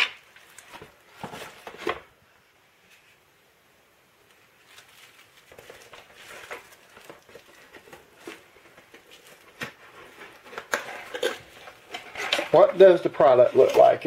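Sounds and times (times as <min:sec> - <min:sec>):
plastic wrap crinkling: 0:00.0 - 0:02.1, 0:04.2 - 0:14.0.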